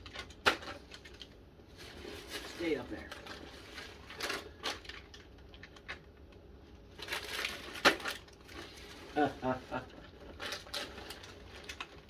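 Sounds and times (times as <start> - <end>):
plastic wrappers rustling: 0.0 - 12.0.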